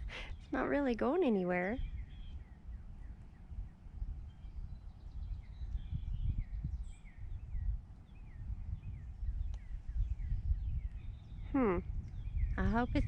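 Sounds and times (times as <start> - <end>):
steady low rumble: 0.0 - 13.0
wild birds chirping: 0.0 - 13.0.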